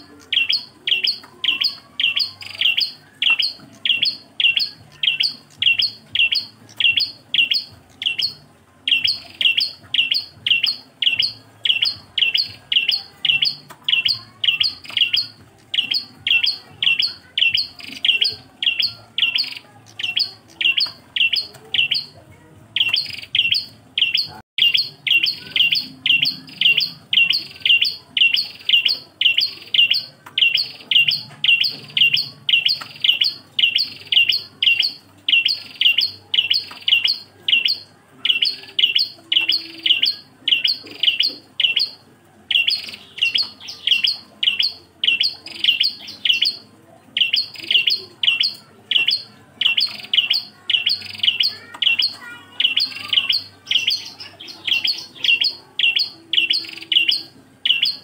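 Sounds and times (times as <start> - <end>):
bird chirping sharply: 0.0 - 22.2, 22.8 - 58.0.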